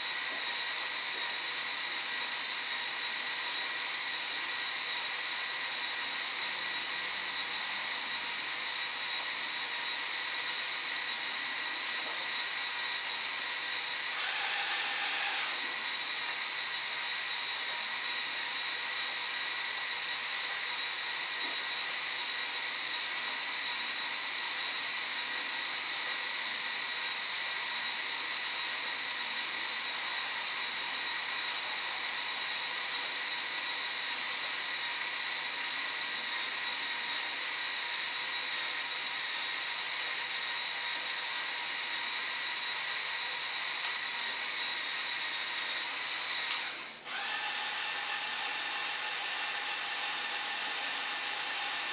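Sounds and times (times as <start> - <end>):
electric motor and gears whining: 0.0 - 51.9.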